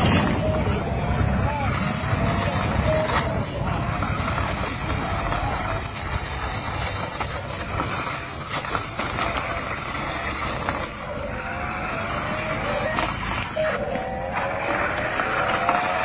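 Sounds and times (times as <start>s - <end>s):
continuous noisy rush: 0.0s - 16.0s
toy car rattling and whirring: 0.0s - 16.0s.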